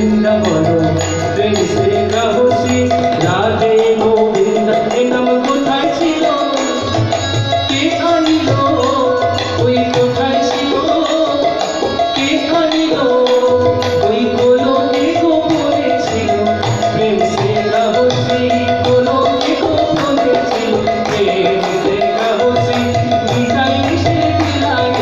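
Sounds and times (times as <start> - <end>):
harmonium drone and chords: 0.0 - 25.0
man singing: 0.0 - 25.0
tabla strokes: 0.0 - 25.0.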